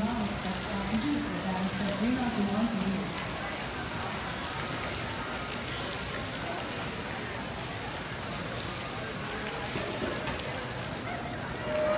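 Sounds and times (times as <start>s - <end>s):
fountain water splashing into pool: 0.0s - 11.9s.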